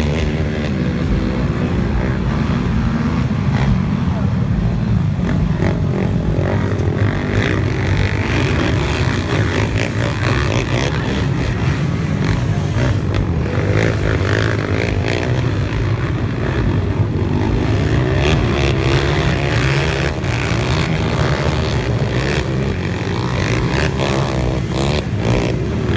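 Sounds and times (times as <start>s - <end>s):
racing quad engines: 0.0s - 25.9s.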